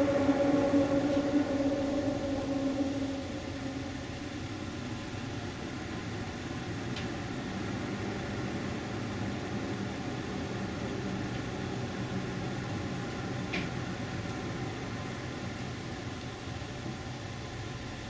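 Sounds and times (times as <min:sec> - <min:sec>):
low rumble and hiss: 0:00.0 - 0:17.1
faint steady hums: 0:00.0 - 0:18.0.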